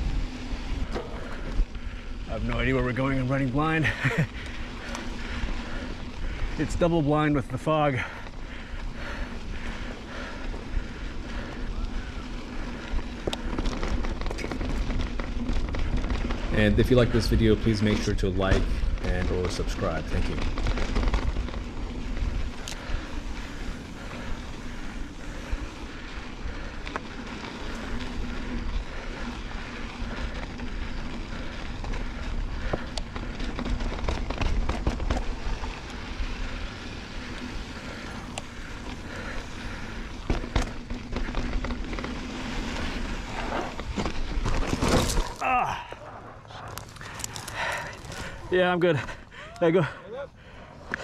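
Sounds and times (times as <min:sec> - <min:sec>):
bike clicks and rattles: 0:00.0 - 0:51.0
tyres crunching over dirt: 0:00.0 - 0:51.0.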